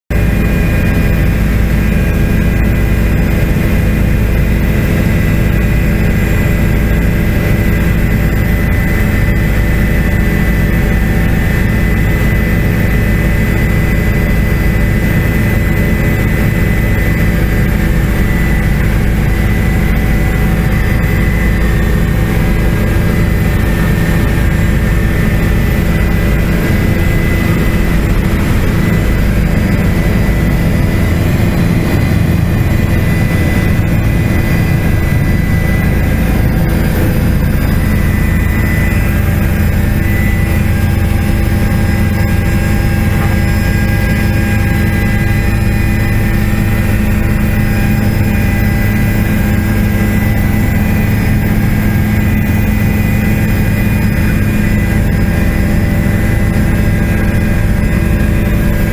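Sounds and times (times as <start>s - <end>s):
helicopter engine whine: 0.1s - 58.9s
helicopter rotor rumble: 0.1s - 58.9s.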